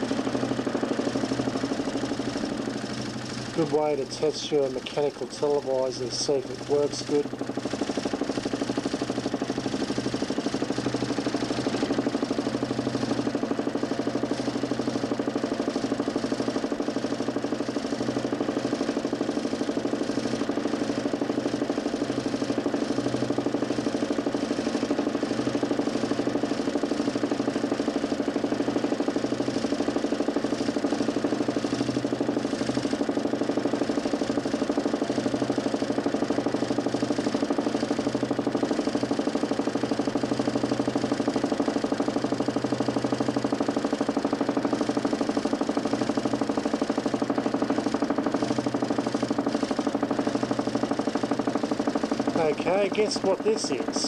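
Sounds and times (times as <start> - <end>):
motor spinning disc: 0.0 - 54.0.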